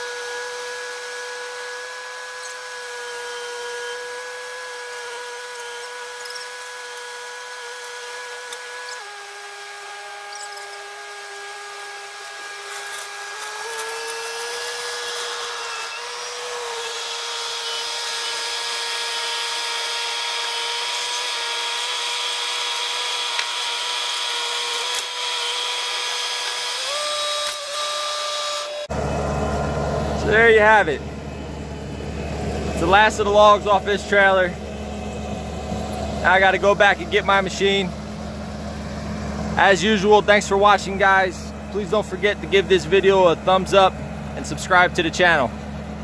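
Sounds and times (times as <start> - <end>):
track loader engine and hydraulics whine: 0.0 - 46.0.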